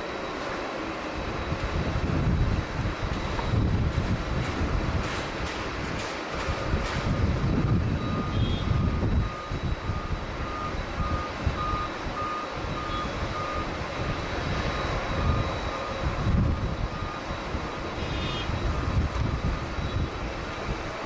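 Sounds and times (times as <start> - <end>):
vehicle reversing beeper: 0.0 - 5.8, 6.5 - 21.0
airport rumble: 0.0 - 21.0
wind buffeting microphone: 1.1 - 21.0.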